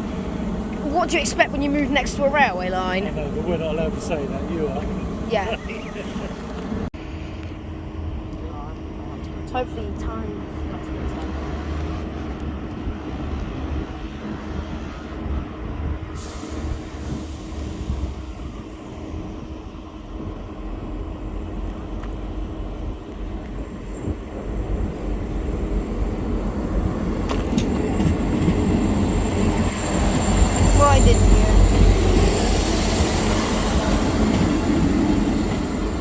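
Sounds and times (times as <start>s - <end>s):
train rumbling with high whine: 0.0s - 36.0s.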